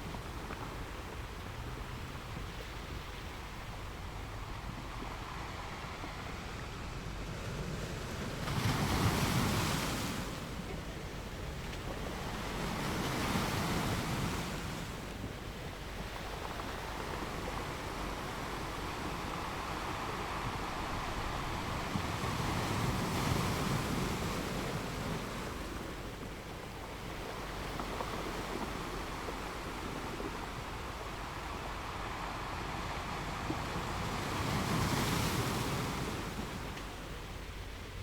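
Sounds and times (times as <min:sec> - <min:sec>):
ocean waves breaking: 0:00.0 - 0:38.0.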